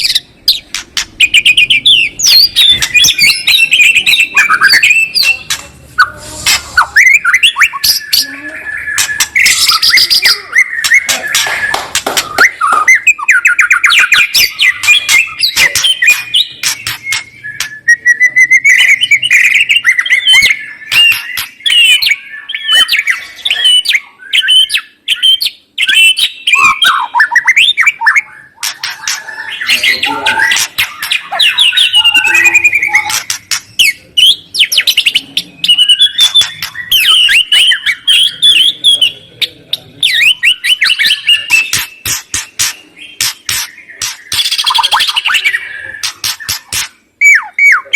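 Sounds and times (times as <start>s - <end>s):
songbird song: 0.0s - 47.9s.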